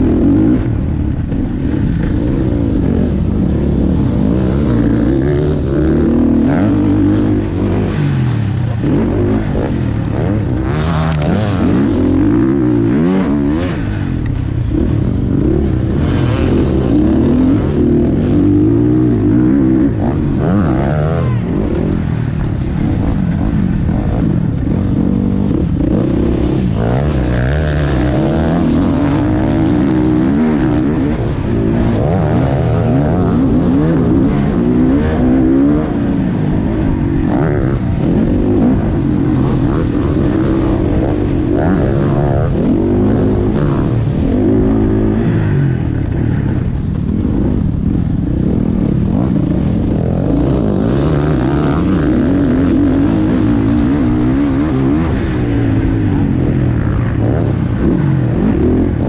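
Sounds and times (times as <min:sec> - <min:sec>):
motocross engine running hard: 0:00.0 - 0:59.0.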